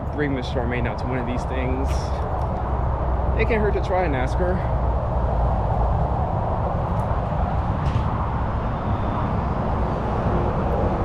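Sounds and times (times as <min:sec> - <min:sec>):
freeway traffic roar: 0:00.0 - 0:11.0.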